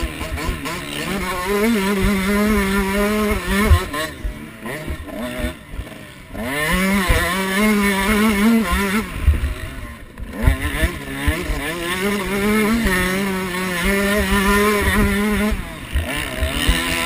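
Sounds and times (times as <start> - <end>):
pit bike engine running: 0.0 - 17.0.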